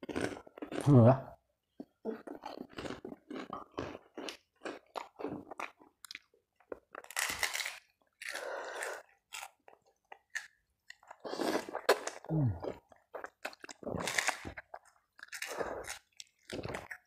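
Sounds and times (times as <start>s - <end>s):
crunching and chewing crackers: 0.0s - 0.9s, 2.2s - 17.0s.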